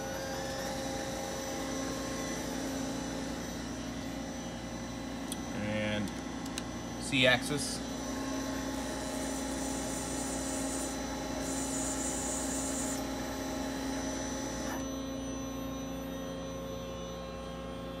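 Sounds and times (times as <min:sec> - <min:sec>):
lathe electrical hum: 0:00.0 - 0:18.0.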